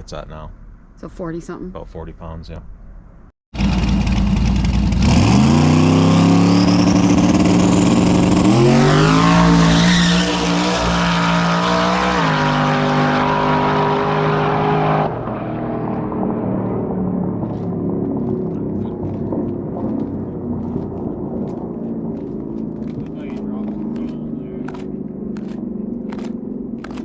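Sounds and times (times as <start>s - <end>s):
drag car engine accelerating: 3.6s - 27.0s.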